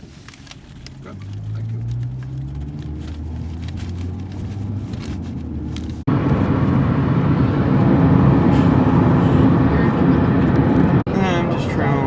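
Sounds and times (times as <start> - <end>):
road noise inside car: 0.0 - 12.0
car engine running: 0.1 - 12.0.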